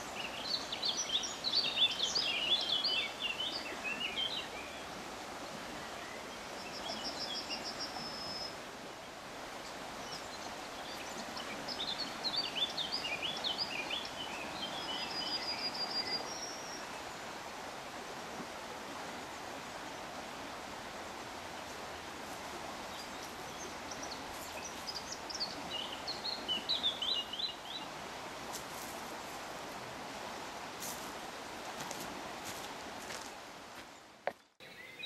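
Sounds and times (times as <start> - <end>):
songbirds chirping: 0.0 - 35.0
woodland ambience hiss: 0.0 - 35.0.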